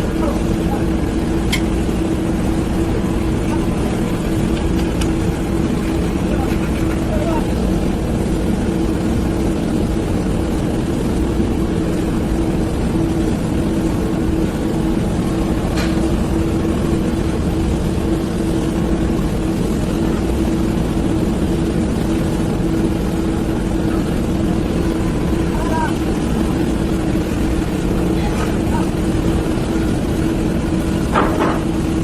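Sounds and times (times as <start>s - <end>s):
heavy machine engine droning: 0.0s - 32.0s.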